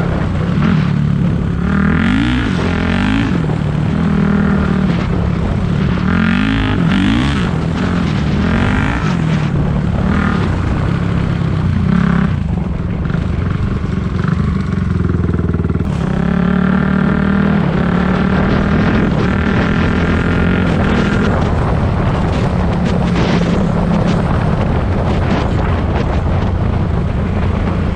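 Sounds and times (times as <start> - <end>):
dirt bike engine revving: 0.0 - 27.7.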